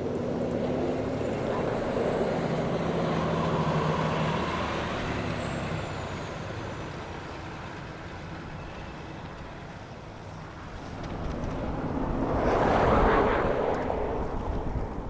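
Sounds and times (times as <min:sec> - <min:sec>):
heavy vehicle engine hum: 0:00.0 - 0:15.0.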